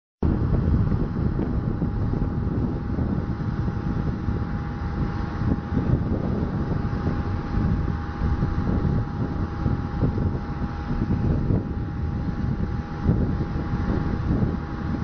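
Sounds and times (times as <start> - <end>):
turboprop engines droning: 0.2 - 15.0
wind buffeting microphone: 0.2 - 15.0.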